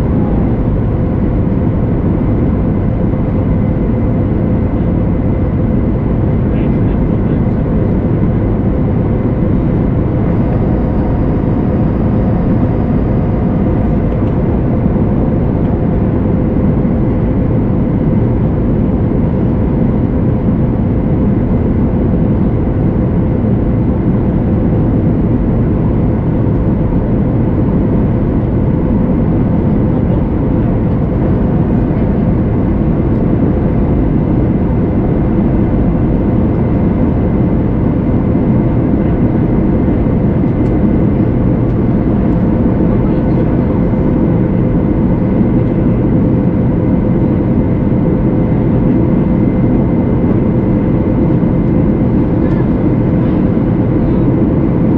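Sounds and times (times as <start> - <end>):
faint steady whine: 0.0 - 54.9
jet engines and airflow rushing: 0.0 - 54.9.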